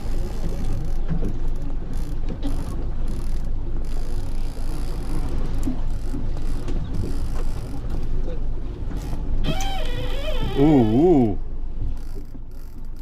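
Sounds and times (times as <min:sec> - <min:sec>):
boat motor running: 0:00.0 - 0:13.0
wind and water noise: 0:00.0 - 0:13.0.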